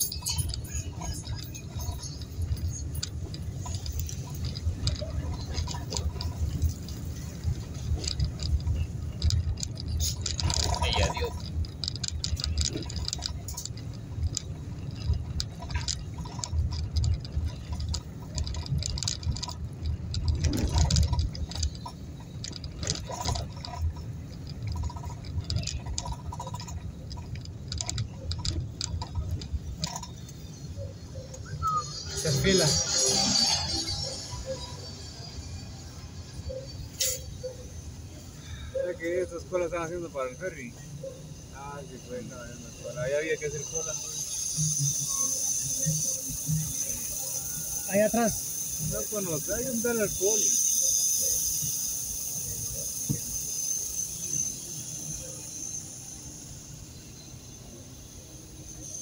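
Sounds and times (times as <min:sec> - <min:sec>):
car engine and tyres rumbling: 0:00.0 - 0:59.0
small clicks and rattles: 0:00.0 - 0:59.0.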